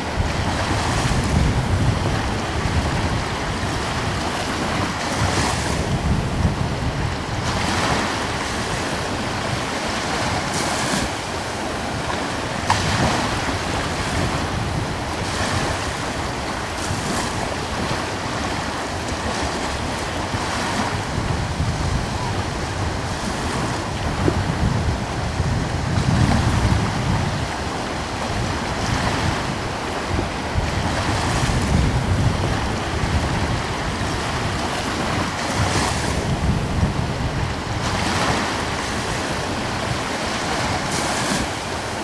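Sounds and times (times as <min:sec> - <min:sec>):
ocean waves breaking: 0:00.0 - 0:42.0
surf hiss: 0:00.0 - 0:42.0
wind rumble on microphone: 0:00.0 - 0:42.0.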